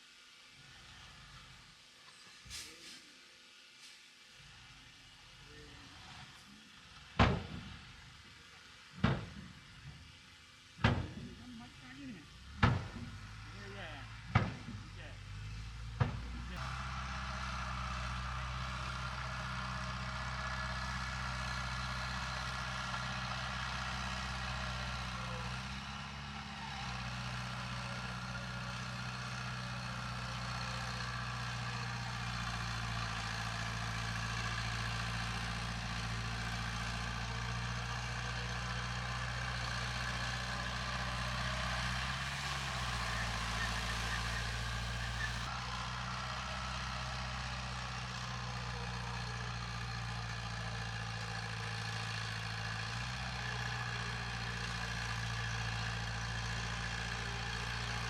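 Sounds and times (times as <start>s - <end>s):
heavy diesel engine running: 4.3s - 58.0s.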